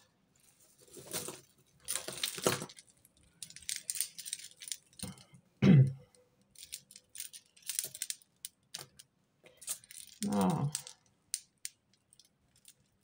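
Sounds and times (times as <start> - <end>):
jewellery jangling and clinking: 0.9 - 5.3, 6.5 - 13.0.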